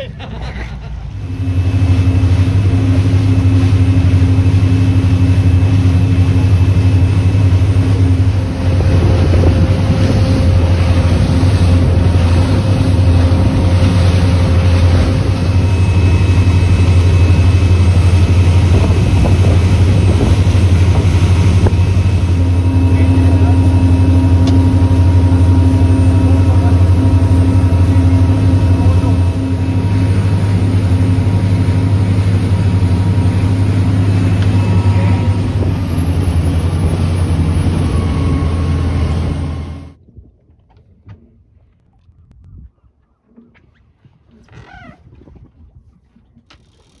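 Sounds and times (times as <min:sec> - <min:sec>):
boat engine droning: 0:00.0 - 0:40.0
rush of wind and water: 0:01.2 - 0:40.4.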